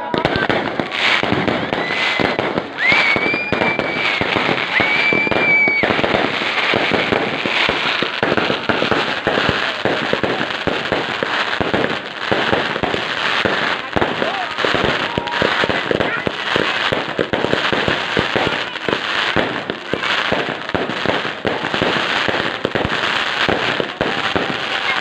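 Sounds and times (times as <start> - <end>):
fireworks crackling and popping: 0.0 - 25.0
high whistling fireworks: 0.0 - 25.0.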